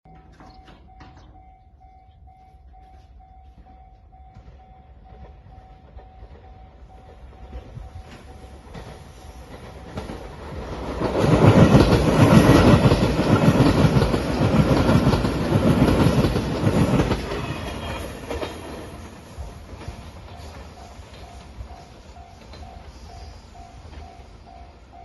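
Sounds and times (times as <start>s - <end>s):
heavy train rumble: 0.1s - 25.0s
train wheels clattering: 0.1s - 25.0s.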